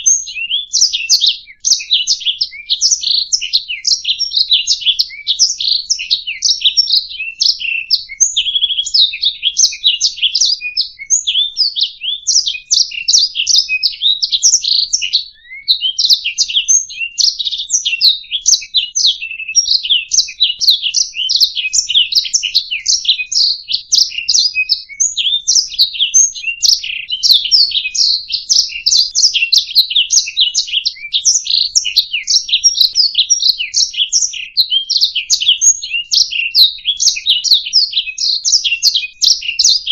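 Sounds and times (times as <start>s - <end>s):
canary warbling song: 0.0s - 39.9s.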